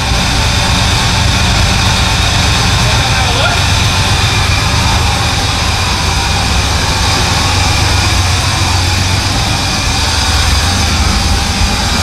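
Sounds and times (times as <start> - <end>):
engine running with deep exhaust: 0.0 - 12.0.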